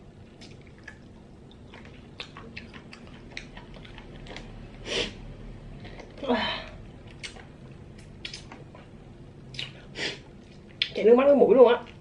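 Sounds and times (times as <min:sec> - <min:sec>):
soft chewing: 0:00.2 - 0:04.8, 0:05.8 - 0:11.0.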